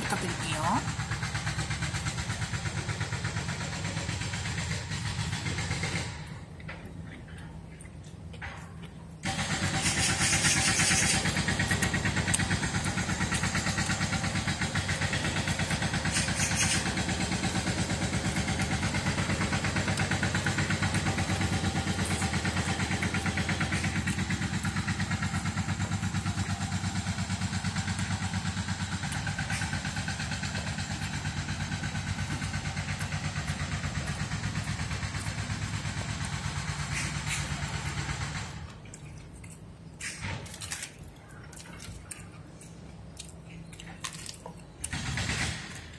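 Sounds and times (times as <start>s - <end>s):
machinery engine throbbing: 0.0s - 45.9s.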